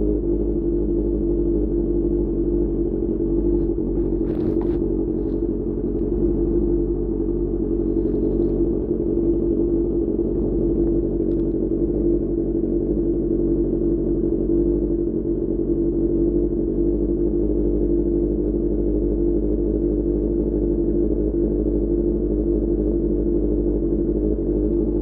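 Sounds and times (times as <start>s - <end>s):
low rumble: 0.0s - 25.0s
motorcycle engine running: 0.0s - 25.0s.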